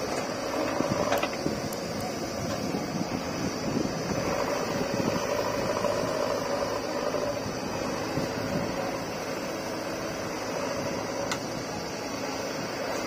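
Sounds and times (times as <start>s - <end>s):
diesel engine running under load: 0.0s - 13.0s
faint steady whine: 0.0s - 13.0s.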